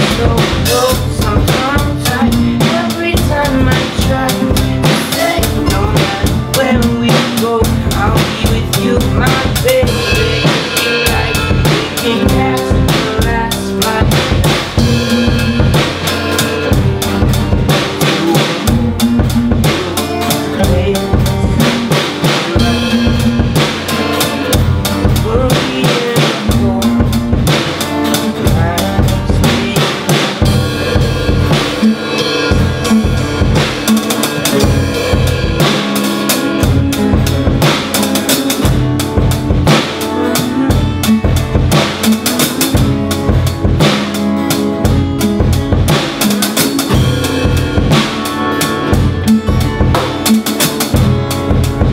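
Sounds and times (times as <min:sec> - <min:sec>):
drum kit beat: 0:00.0 - 0:51.9
strummed guitars: 0:00.0 - 0:51.9.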